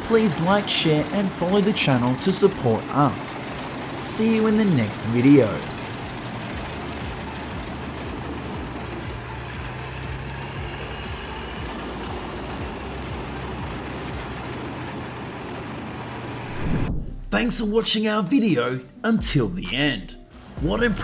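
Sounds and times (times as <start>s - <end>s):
heavy machine engine running: 0.0s - 17.8s.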